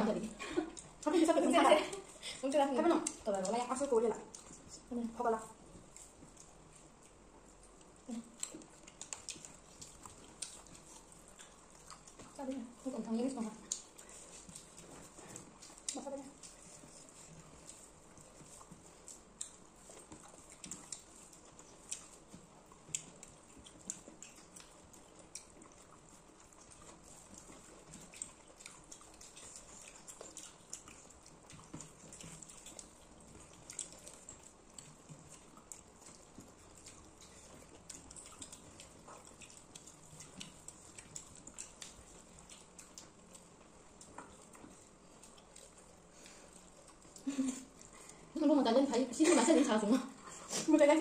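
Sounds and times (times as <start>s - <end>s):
chewing with mouth clicks and smacks: 0.0s - 51.0s.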